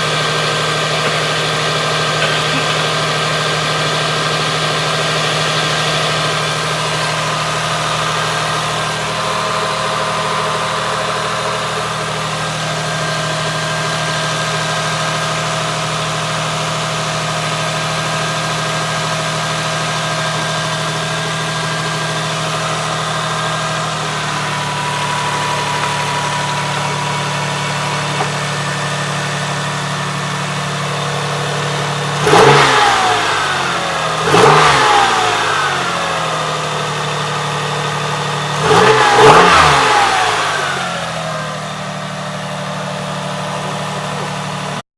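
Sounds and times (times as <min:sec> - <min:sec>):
car engine idling: 0:00.0 - 0:44.8.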